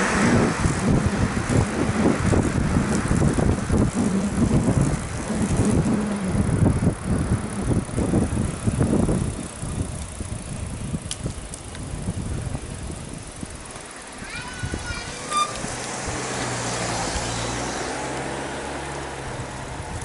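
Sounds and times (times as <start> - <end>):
bicycle road noise: 0.0 - 20.0
wind rumbling on microphone: 0.0 - 20.0.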